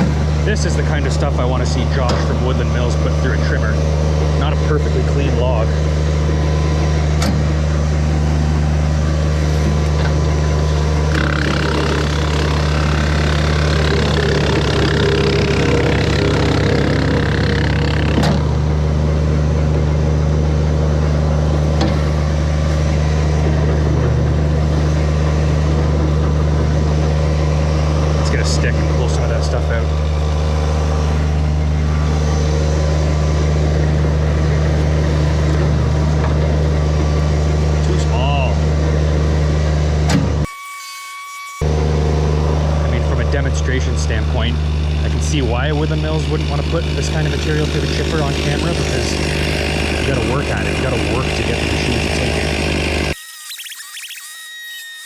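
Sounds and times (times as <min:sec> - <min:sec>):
tractor diesel engine running: 0:00.0 - 0:40.1, 0:41.7 - 0:53.2
wood chipper: 0:00.0 - 0:55.0.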